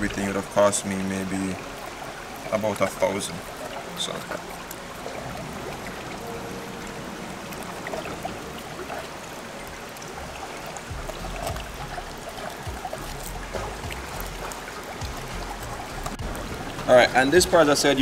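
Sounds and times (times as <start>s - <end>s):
quiet background music: 0.0s - 18.0s
river flowing: 0.0s - 18.0s.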